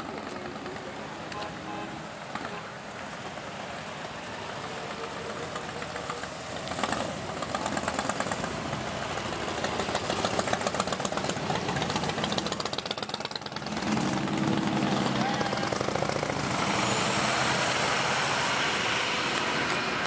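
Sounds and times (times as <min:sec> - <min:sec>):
motorcycles riding past: 0:03.4 - 0:20.0.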